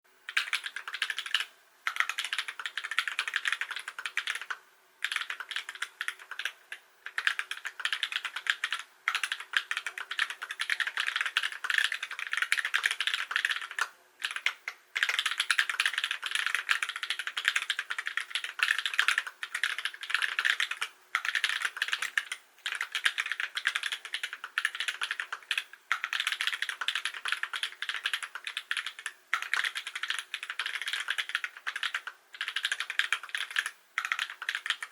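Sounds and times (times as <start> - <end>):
typing on mechanical keyboard: 0.3 - 34.9.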